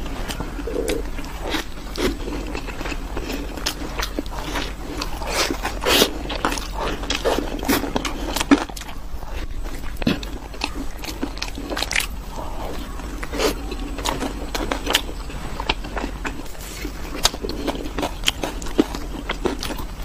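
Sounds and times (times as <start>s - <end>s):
chewing chocolate: 0.0s - 20.0s.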